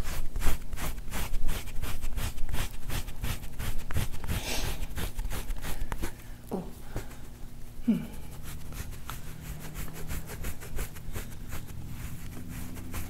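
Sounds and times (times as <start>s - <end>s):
tool scraping over skin: 0.0s - 6.2s, 8.2s - 13.0s.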